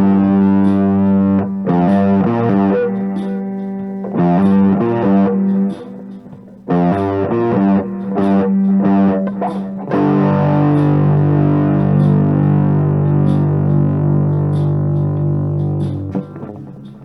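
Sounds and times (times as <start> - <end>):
overdriven electric guitar: 0.0 - 17.0
backing drum track: 0.1 - 17.0.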